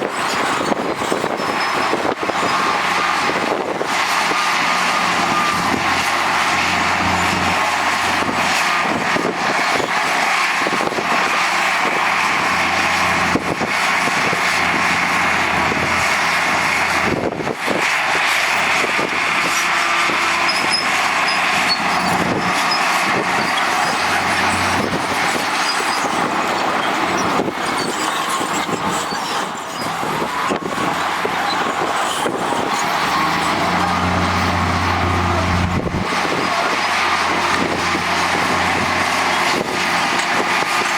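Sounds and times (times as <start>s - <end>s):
heavy machinery engines running: 0.0s - 40.9s.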